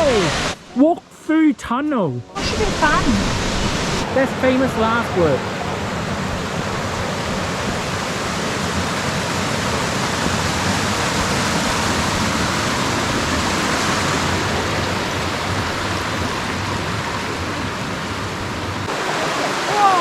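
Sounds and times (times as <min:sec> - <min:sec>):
flowing water rushing: 0:00.0 - 0:01.1, 0:02.3 - 0:20.0.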